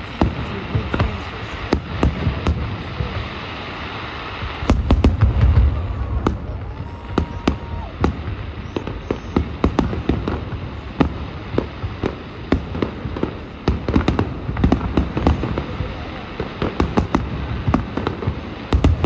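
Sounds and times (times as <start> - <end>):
fireworks bangs and crackles: 0.0 - 19.0
fireworks booming: 0.0 - 19.0.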